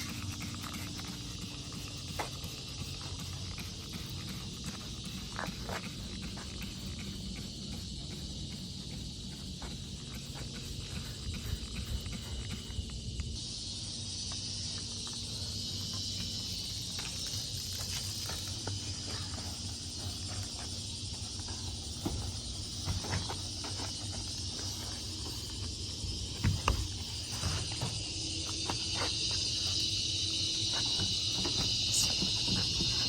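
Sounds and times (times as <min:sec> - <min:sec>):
insect chorus droning: 0:00.0 - 0:33.0.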